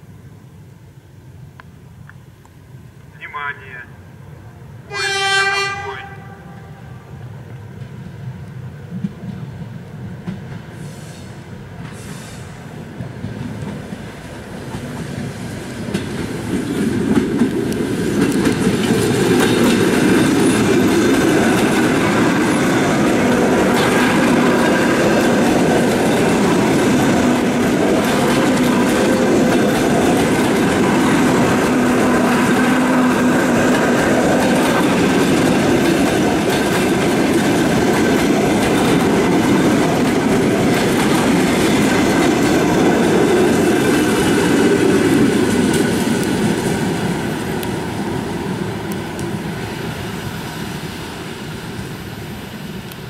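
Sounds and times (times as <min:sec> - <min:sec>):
train carriages rumbling: 0:07.4 - 0:52.7
wheels clacking on rails: 0:07.6 - 0:53.0.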